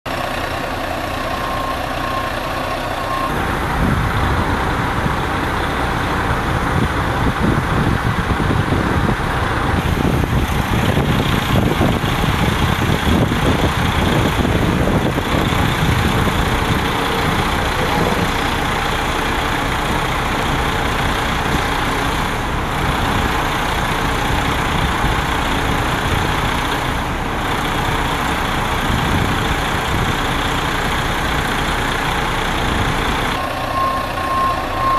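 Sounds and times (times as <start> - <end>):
vehicle engines rumbling: 0.1 - 34.9.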